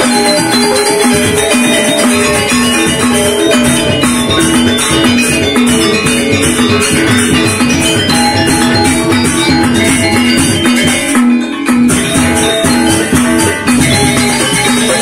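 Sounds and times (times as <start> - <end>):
hand-beaten drums: 0.0 - 15.0
high jingling: 0.0 - 15.0
metallophones ringing: 0.0 - 15.0.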